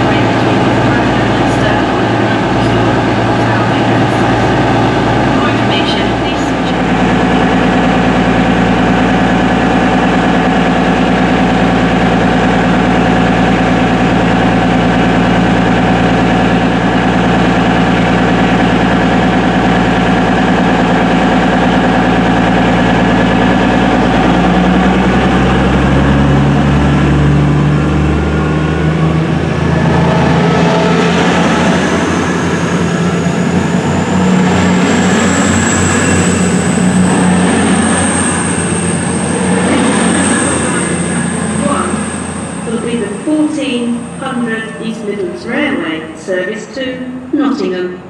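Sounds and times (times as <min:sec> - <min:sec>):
diesel train engines idling: 0:00.0 - 0:48.0.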